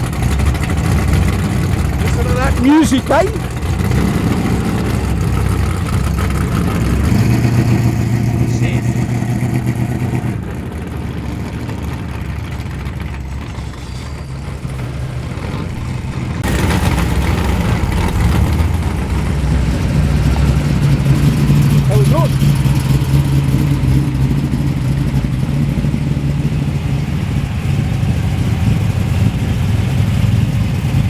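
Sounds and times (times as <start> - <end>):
loud car engine idling: 0.0 - 31.0.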